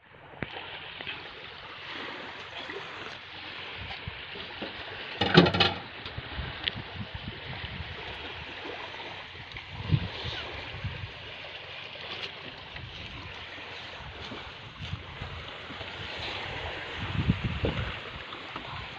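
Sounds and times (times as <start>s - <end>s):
wind: 0.0s - 18.9s
shallow sea water washing: 0.2s - 18.9s.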